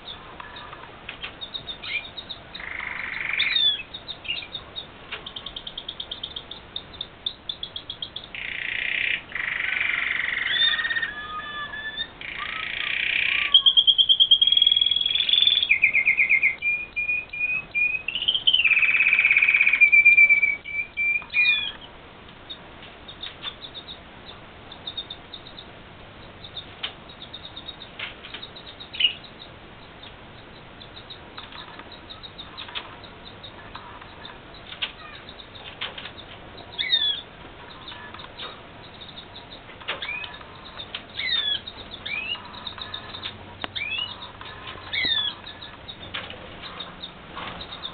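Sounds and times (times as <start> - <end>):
canary singing trills: 0.0 - 47.9
bird chirps and clicks: 0.1 - 11.1, 11.7 - 47.9.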